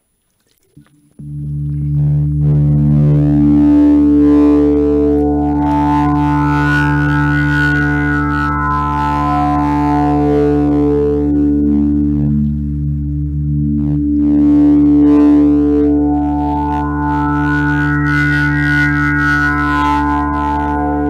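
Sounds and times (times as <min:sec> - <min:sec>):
electronic ambient music: 0:00.5 - 0:21.0.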